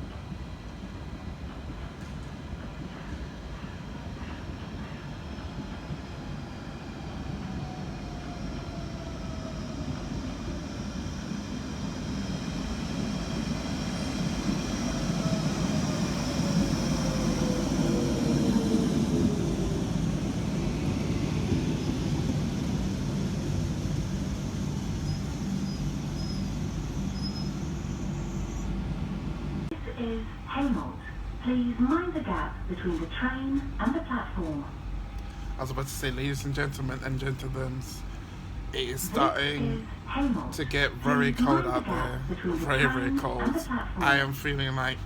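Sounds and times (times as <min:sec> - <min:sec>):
train humming at standstill: 0:00.0 - 0:45.0.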